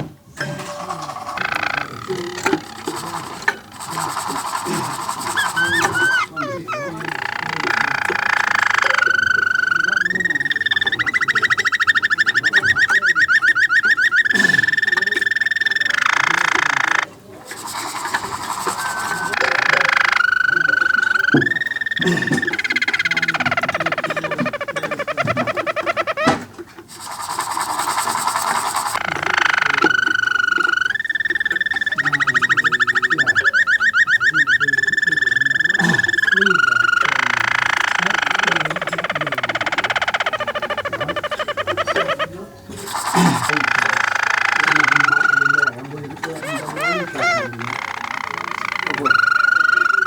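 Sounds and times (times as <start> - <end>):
canary singing: 0.0 - 50.0.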